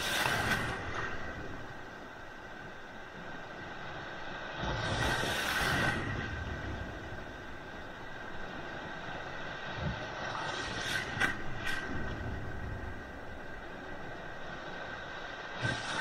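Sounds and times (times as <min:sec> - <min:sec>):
sea waves breaking on beach: 0:00.0 - 0:16.0.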